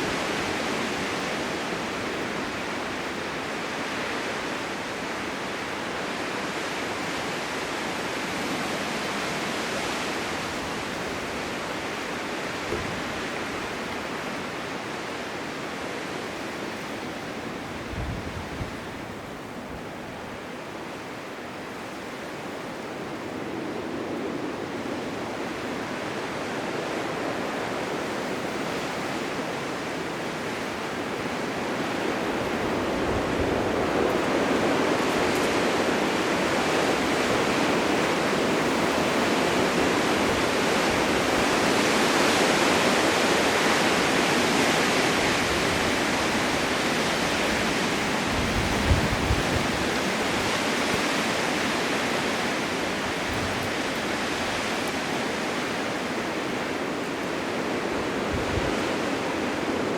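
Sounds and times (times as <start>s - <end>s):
blizzard wind blowing: 0.0s - 59.9s.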